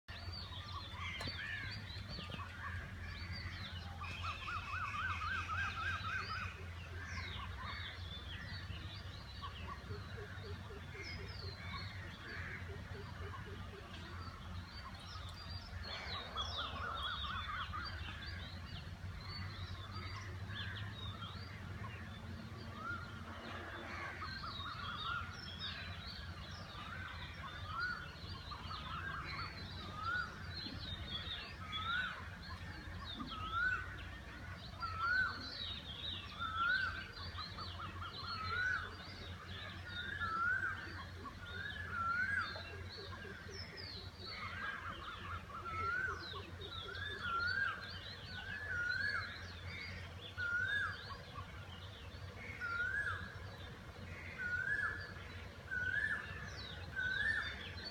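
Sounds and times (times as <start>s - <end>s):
birds chirping and calling: 0.1s - 57.9s.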